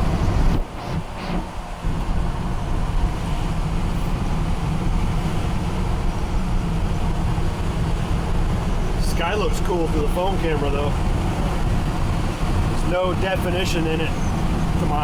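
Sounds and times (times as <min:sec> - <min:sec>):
pickup truck engine drone: 0:00.0 - 0:15.0.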